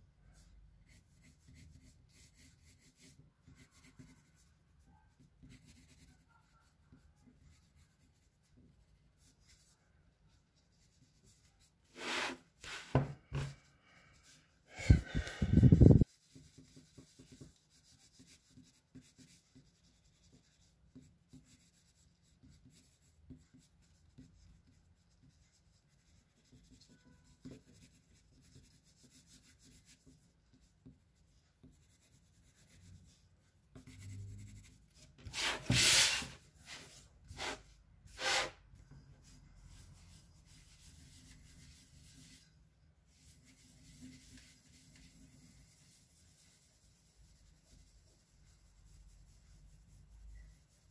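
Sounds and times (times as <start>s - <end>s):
pencil scratching on paper: 0.8s - 38.9s, 43.1s - 50.9s.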